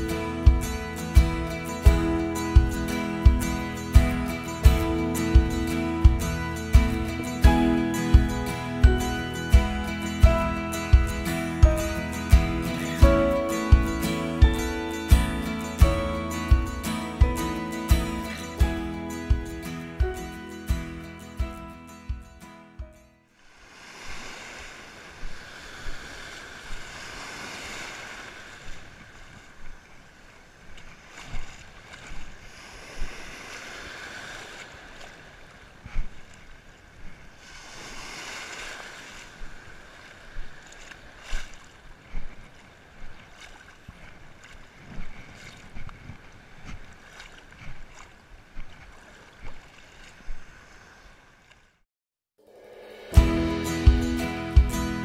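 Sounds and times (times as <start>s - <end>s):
surf washing and breaking: 0.0s - 21.6s, 23.4s - 51.2s, 52.4s - 55.0s.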